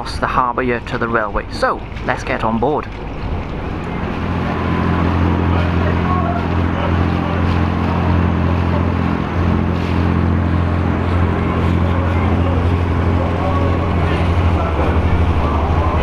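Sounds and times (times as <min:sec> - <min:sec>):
ferry engine drone: 0:00.0 - 0:16.0
water wash: 0:00.0 - 0:16.0.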